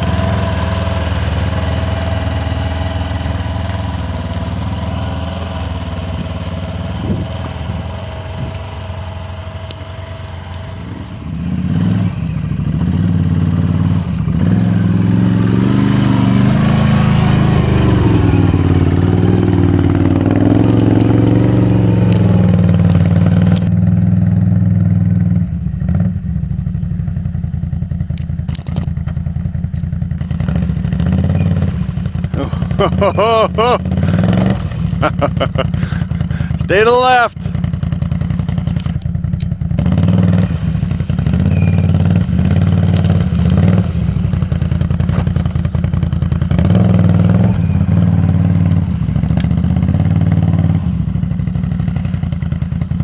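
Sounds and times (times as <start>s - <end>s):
atv engine pulling: 0.0s - 53.0s.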